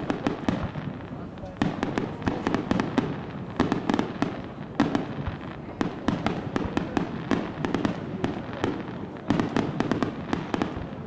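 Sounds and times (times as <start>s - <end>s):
fireworks bursting: 0.0s - 11.0s
fireworks crackling: 0.0s - 11.0s.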